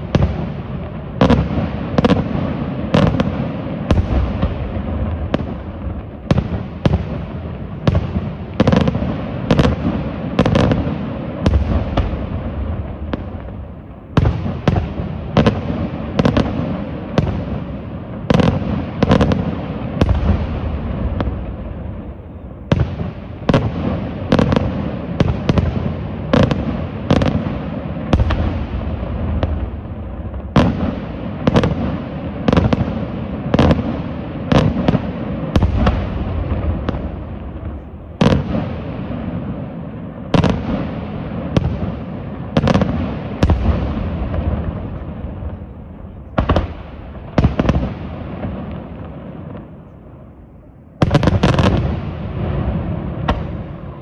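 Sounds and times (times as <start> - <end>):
fireworks bangs with echo: 0.0 - 54.0.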